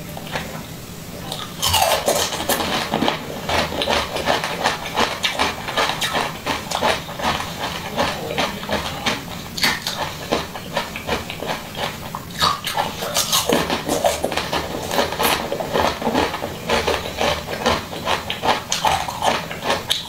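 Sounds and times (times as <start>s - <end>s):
biting and chewing jelly candy: 1.2s - 20.0s.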